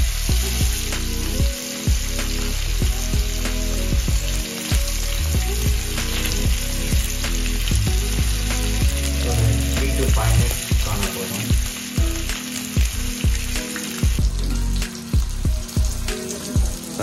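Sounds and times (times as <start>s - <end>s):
fish sizzling in oil: 0.0s - 17.0s
music with regular beat: 0.0s - 17.0s.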